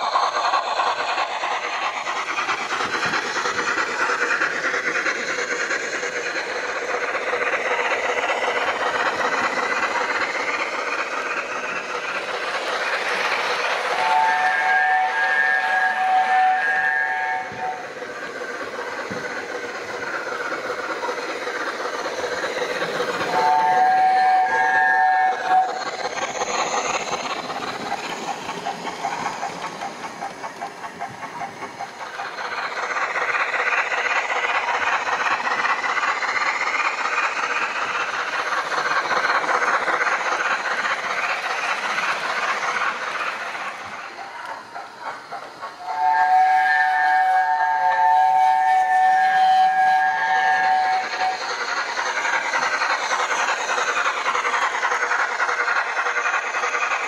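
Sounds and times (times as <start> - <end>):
steam locomotive chuffs with hiss: 0.0 - 57.0.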